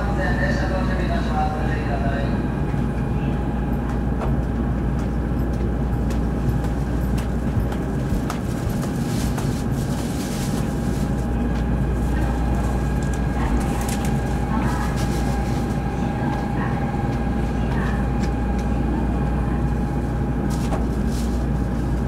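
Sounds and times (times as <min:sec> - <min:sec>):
low hum inside train car: 0:00.0 - 0:22.0.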